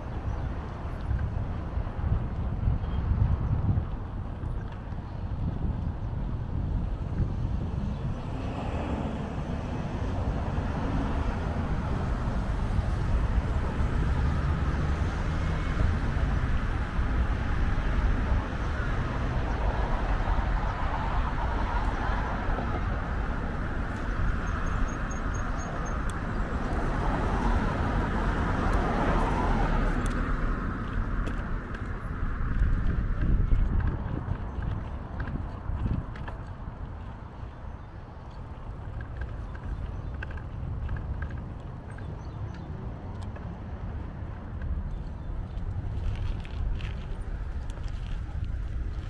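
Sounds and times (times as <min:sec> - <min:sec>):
wind rumble on microphone: 0:00.0 - 0:49.0
cars passing: 0:03.9 - 0:49.0.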